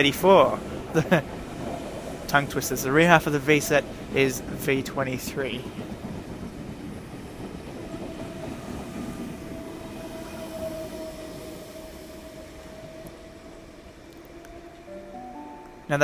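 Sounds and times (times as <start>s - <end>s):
train rumbling past on rails: 0.0s - 16.0s.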